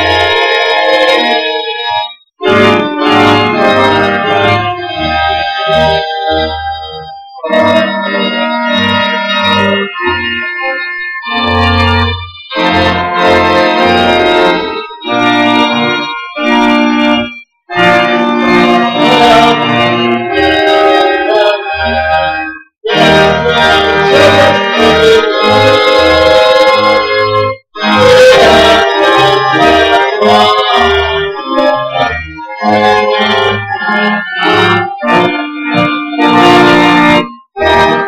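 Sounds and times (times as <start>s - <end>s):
church organ playing chords: 0.0s - 38.0s.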